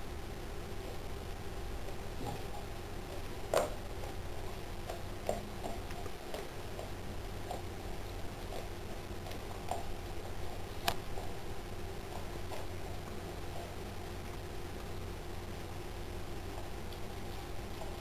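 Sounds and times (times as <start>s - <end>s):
dog chewing: 1.8s - 14.9s, 16.2s - 18.0s.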